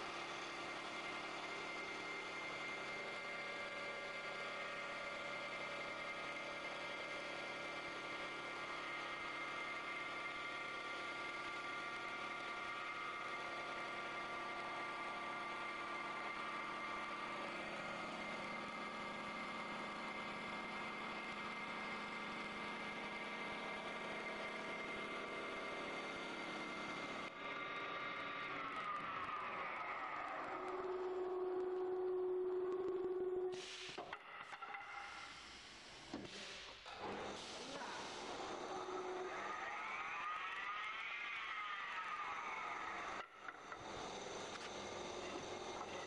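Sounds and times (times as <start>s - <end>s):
cutter shaving wood: 0.0s - 33.6s, 36.9s - 46.0s
lathe machine whine: 0.0s - 34.8s, 36.9s - 46.0s.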